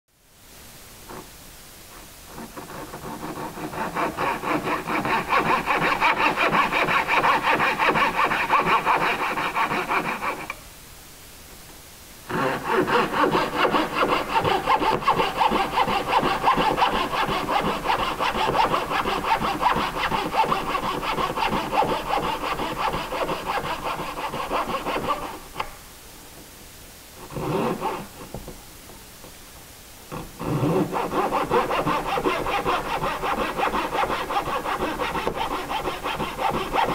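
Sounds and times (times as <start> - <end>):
hand saw cutting wood: 2.3 - 10.6, 12.3 - 25.7, 27.2 - 28.4, 30.1 - 36.9.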